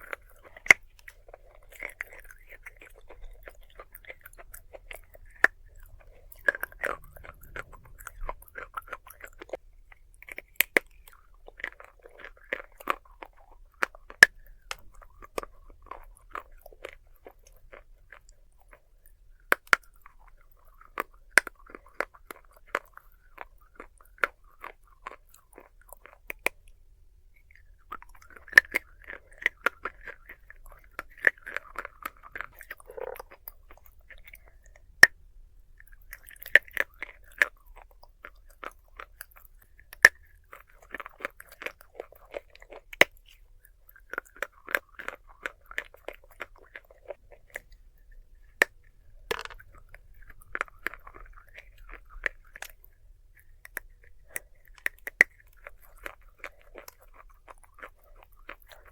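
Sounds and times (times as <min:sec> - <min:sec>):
person chewing dry clay: 0:00.0 - 0:58.9.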